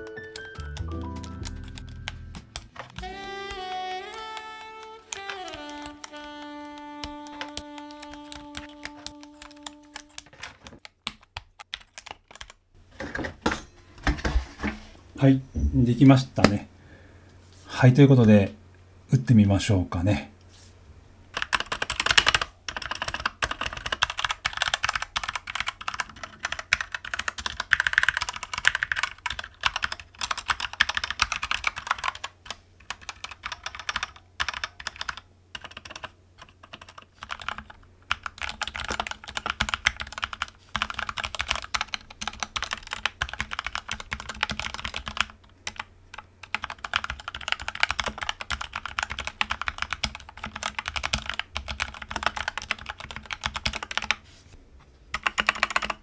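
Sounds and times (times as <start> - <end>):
mechanical keyboard typing: 0.0 - 12.6, 21.3 - 54.2, 55.1 - 56.0.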